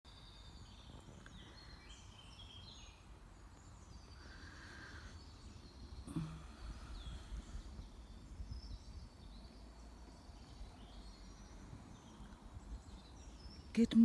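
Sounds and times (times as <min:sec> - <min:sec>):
birds singing: 0:00.1 - 0:14.0.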